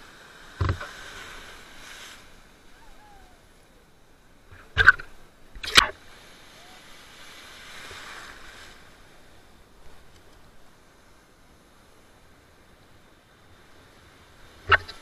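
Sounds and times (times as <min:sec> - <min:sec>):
surf washing: 0:00.0 - 0:15.0.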